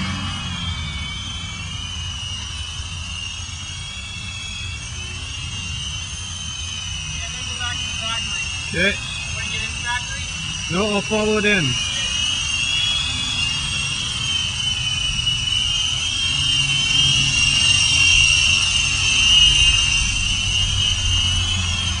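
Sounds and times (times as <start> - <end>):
drone rotors whining: 0.0 - 22.0
low rumble: 0.0 - 22.0.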